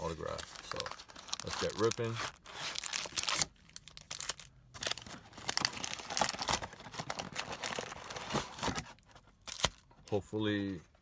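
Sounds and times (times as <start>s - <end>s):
plastic wrapping torn and crumpled: 0.1s - 8.8s, 9.4s - 9.8s.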